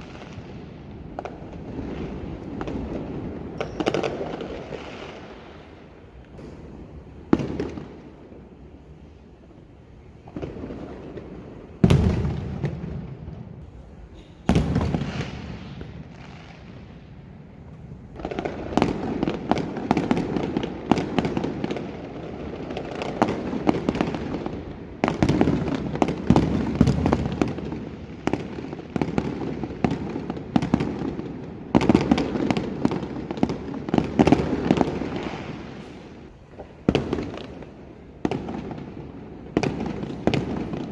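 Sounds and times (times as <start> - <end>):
firework bangs: 0.0 - 9.2, 10.2 - 40.9
fireworks crackling pops: 0.0 - 40.9.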